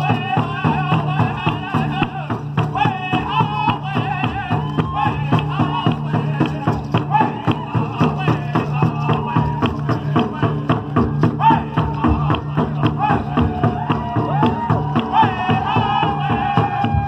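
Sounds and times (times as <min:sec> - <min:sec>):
drum struck in fast beat: 0:00.0 - 0:17.0.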